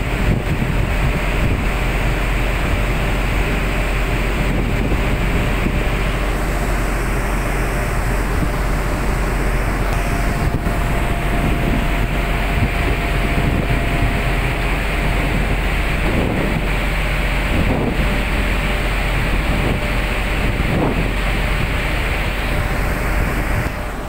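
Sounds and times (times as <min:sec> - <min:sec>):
boat engine drone: 0:00.0 - 0:24.0
sea noise: 0:00.0 - 0:24.0
wind on microphone: 0:00.0 - 0:24.0.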